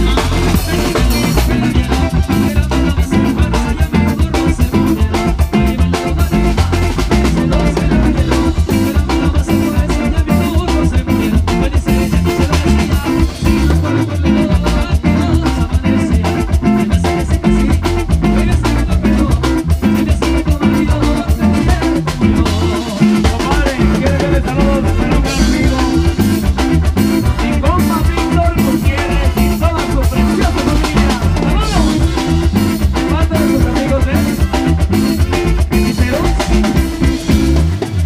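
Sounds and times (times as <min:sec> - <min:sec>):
cumbia band playing: 0:00.0 - 0:38.0.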